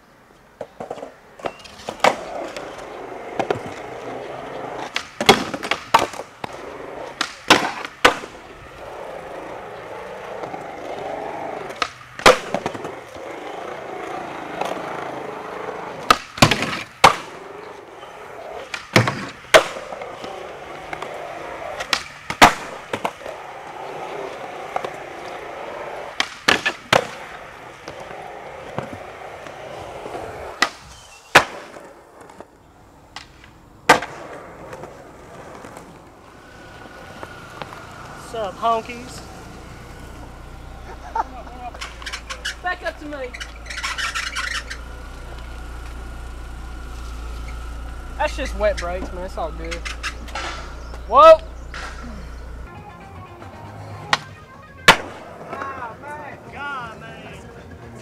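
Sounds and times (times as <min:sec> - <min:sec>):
skateboard wheels rolling on concrete: 0:00.0 - 0:58.0.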